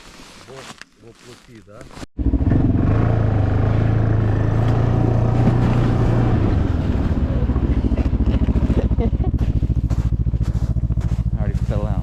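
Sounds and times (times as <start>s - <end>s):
snowmobile engine running: 2.2s - 12.0s.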